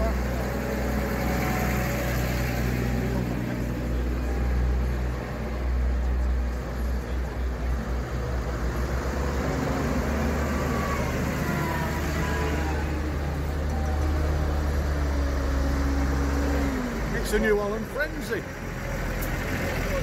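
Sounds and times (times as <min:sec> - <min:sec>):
tractor diesel engines running: 0:00.0 - 0:20.0.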